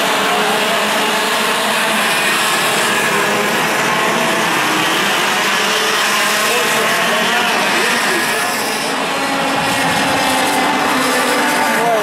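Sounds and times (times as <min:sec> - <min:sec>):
kart engines buzzing at high revs: 0:00.0 - 0:12.0.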